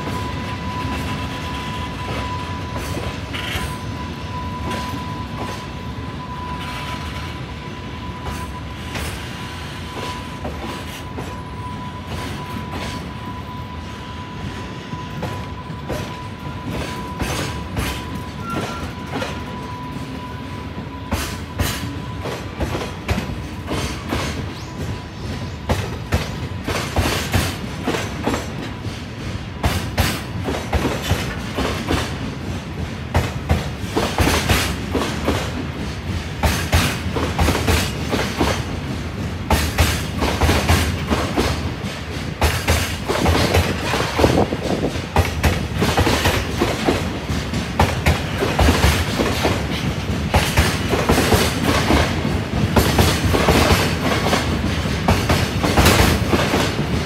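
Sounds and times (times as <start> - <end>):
train wheels clacking on rail joints: 0.0 - 5.8, 8.1 - 13.4, 15.0 - 57.0.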